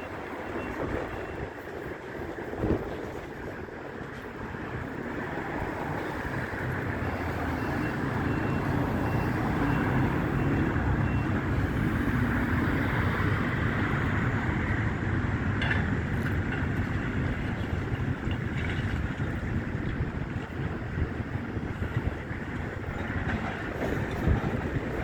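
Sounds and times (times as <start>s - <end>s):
heavy diesel machinery running: 0.0s - 25.0s.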